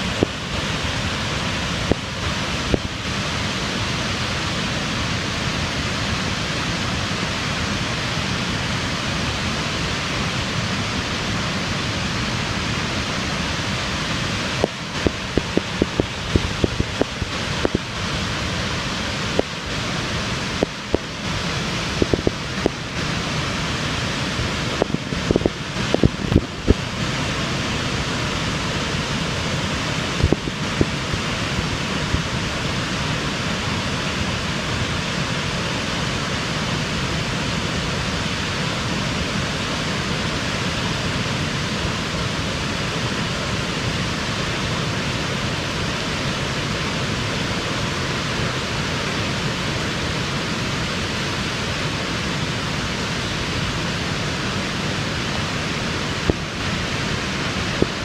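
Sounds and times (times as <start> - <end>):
floodwater rushing through dam gates: 0.0 - 58.0.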